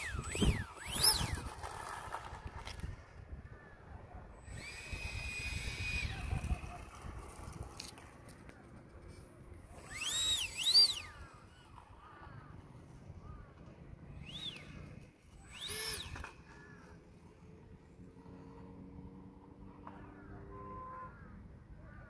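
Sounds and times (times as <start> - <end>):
electric ducted fan whining: 0.0 - 19.2.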